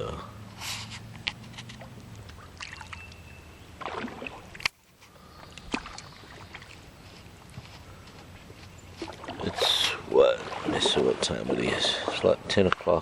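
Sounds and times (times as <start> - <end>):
river water: 0.0 - 13.0.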